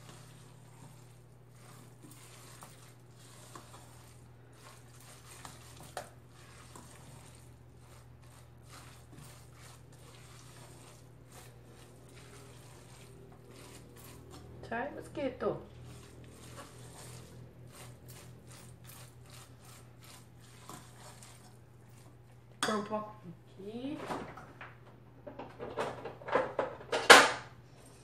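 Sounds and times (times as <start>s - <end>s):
hand kneading moist rice mixture: 0.0s - 23.8s.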